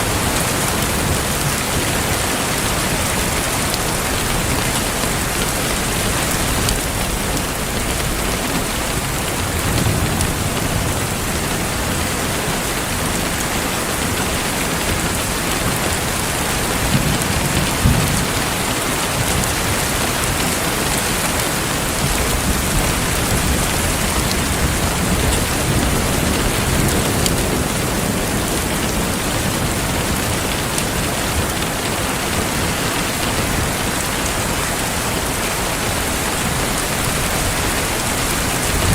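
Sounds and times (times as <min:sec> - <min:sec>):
thunder rumbling: 0:00.0 - 0:13.4, 0:14.0 - 0:38.9
heavy rain: 0:00.0 - 0:38.9.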